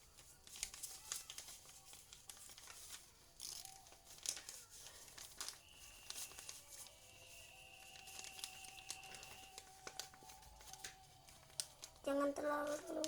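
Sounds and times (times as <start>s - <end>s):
paper crinkling: 0.0s - 13.0s.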